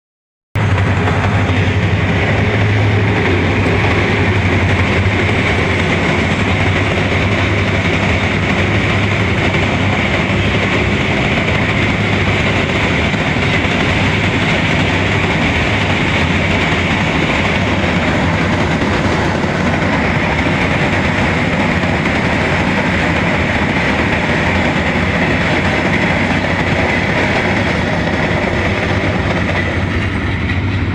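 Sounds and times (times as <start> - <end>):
train wheels rumbling and rattling: 0.6 - 30.9.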